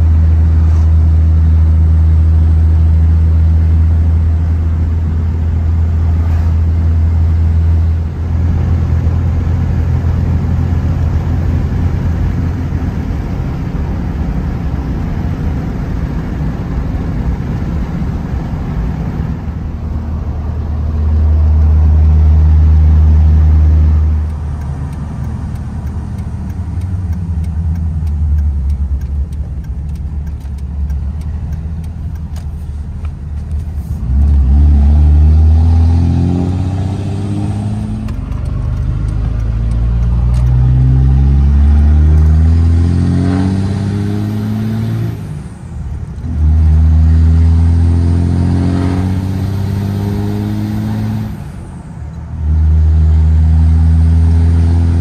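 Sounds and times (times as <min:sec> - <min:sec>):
pickup engine and road drone: 0:00.0 - 0:55.0.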